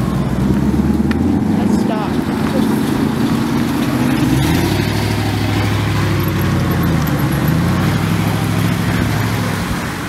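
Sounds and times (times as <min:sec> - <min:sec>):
cars driving slowly past: 0:00.0 - 0:10.0.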